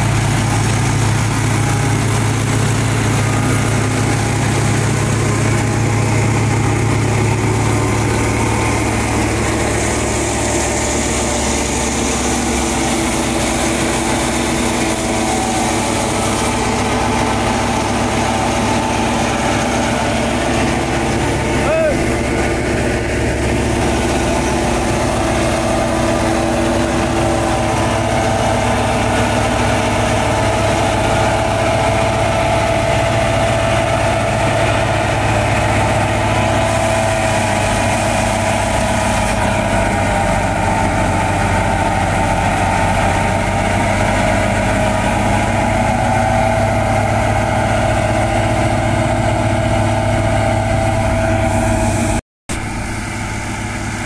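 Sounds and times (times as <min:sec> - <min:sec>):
machinery whine: 0:00.0 - 0:54.0
tractor engine droning: 0:00.0 - 0:54.0.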